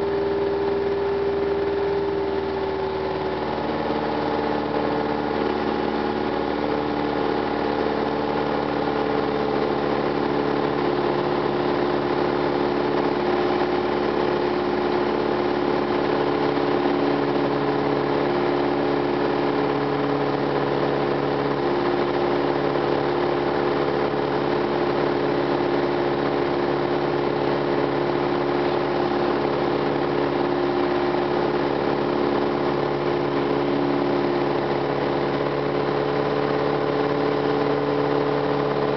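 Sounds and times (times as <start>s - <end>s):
airplane engine and propeller: 0.0s - 38.9s.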